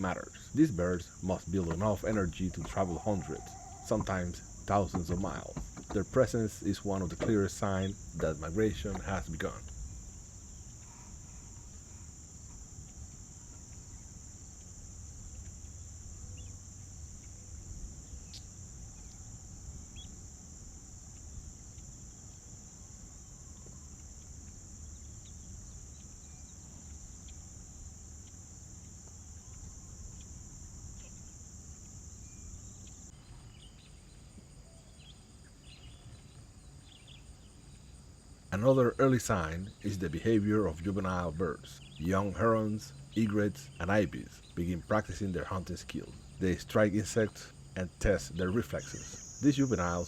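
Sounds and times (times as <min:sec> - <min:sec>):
insects chorus: 0:00.0 - 0:50.0.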